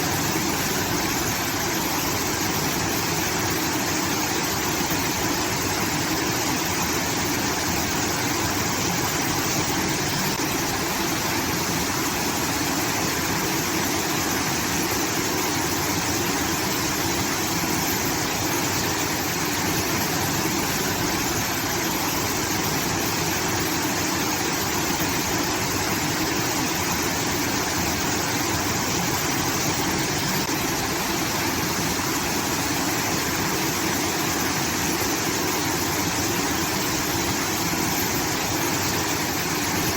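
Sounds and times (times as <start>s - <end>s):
water rushing and pouring: 0.0s - 39.9s.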